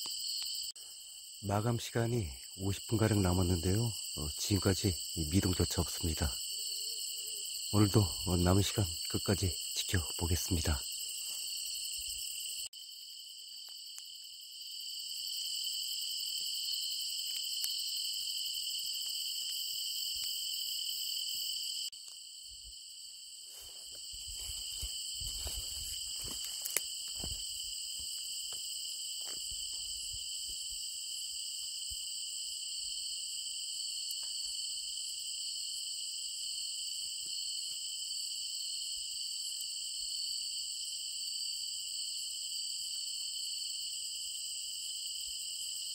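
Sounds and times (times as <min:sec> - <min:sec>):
crickets and night insects chirping: 0:00.0 - 0:45.9.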